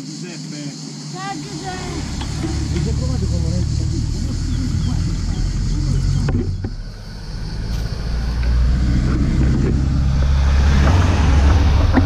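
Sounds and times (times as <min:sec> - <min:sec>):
pickup truck passing: 0:01.2 - 0:12.0
low rumble: 0:01.4 - 0:12.0.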